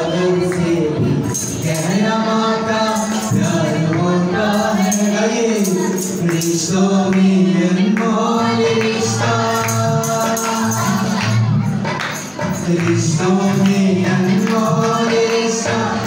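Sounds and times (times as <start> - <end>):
man singing into a microphone: 0.0 - 16.0
percussion: 0.0 - 16.0.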